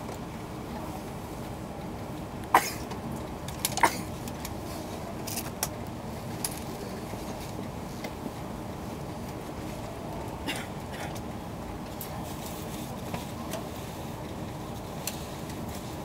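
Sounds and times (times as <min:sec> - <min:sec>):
low hum inside train carriage: 0:00.0 - 0:16.0.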